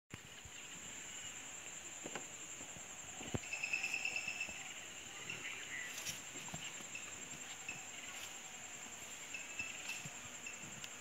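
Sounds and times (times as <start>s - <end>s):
high-pitched insect drone: 0.3s - 11.0s.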